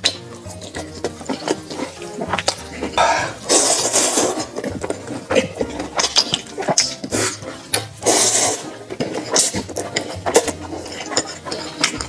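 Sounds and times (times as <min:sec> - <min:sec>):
background music: 0:00.0 - 0:12.0
chewing clicks: 0:00.0 - 0:12.0
person slurping noodles: 0:00.3 - 0:12.0.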